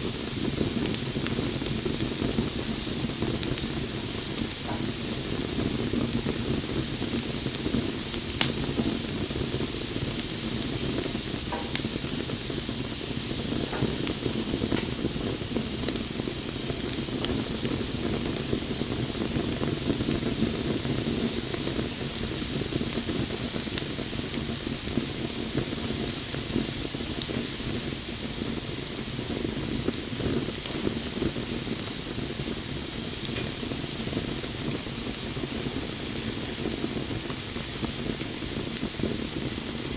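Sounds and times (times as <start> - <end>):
bonfire flame hiss and rumble: 0.0 - 39.9
fire crackles and pops: 0.0 - 39.9.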